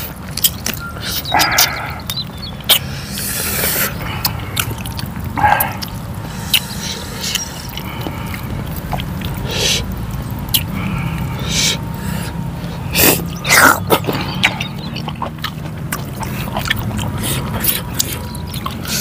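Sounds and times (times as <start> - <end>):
steady low rumble: 0.0 - 19.0
wet chewing and lip smacks: 0.0 - 19.0.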